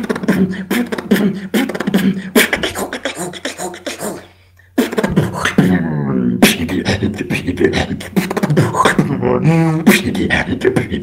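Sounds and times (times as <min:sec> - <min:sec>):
beatboxing: 0:00.0 - 0:11.0.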